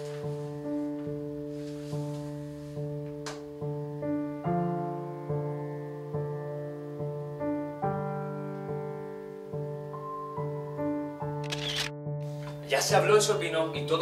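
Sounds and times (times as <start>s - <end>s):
slow solo piano: 0.0s - 12.7s.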